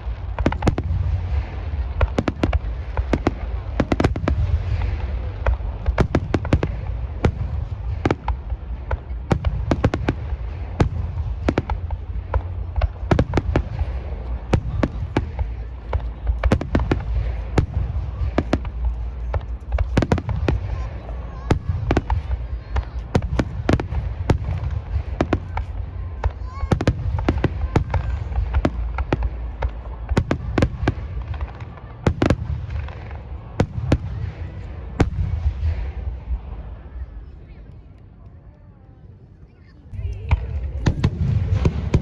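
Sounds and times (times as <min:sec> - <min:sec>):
fireworks bangs: 0:00.0 - 0:37.6, 0:39.9 - 0:42.0.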